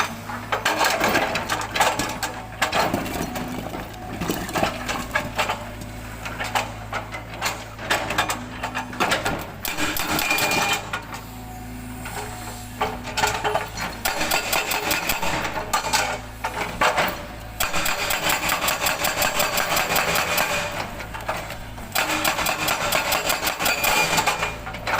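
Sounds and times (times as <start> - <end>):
hydraulic breaker pounding rock: 0.0 - 11.2, 12.0 - 24.9
excavator diesel engine hum: 0.0 - 24.9.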